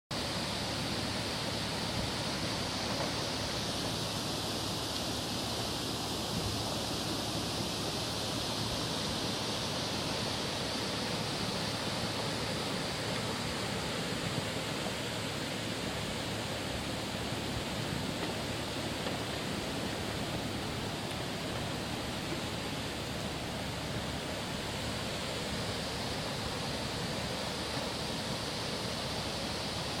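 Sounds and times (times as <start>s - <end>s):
stream running water: 0.1s - 30.0s.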